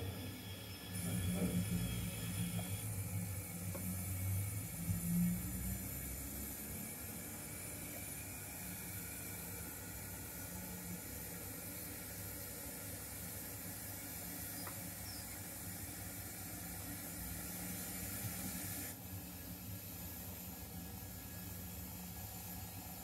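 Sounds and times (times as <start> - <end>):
model trains humming: 0.0 - 23.0.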